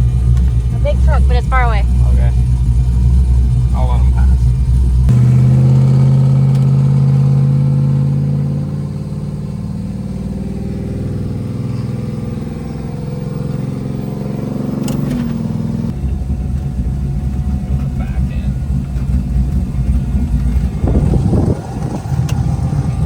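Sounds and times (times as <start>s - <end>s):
drag car engine running: 0.0s - 23.0s.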